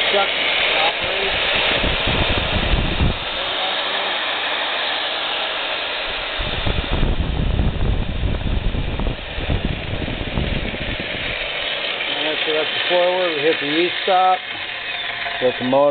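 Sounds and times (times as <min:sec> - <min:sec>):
drill press motor whirring: 0:00.0 - 0:15.9
low rumbling surges: 0:00.0 - 0:15.9.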